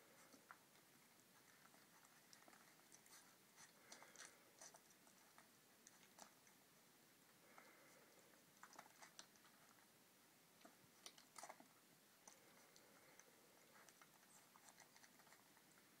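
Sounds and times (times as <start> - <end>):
puppies suckling: 0.0 - 16.0.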